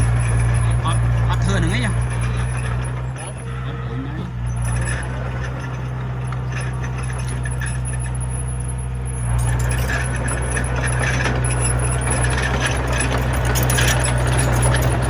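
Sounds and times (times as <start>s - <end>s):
light metallic clatter: 0.0s - 3.4s, 4.3s - 15.0s
bulldozer diesel engine running: 0.0s - 15.0s.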